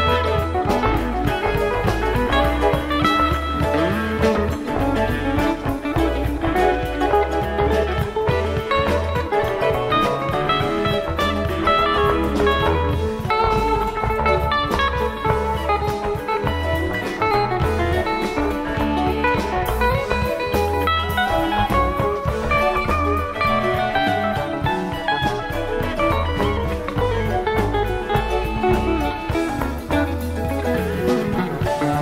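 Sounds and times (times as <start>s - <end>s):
electric guitar solo: 0.0s - 32.0s
live rock band playing: 0.0s - 32.0s.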